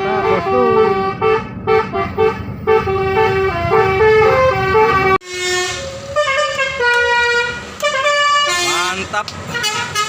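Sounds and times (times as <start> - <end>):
musical air horn tune: 0.0 - 8.9
bus engine rumbling: 0.0 - 10.0.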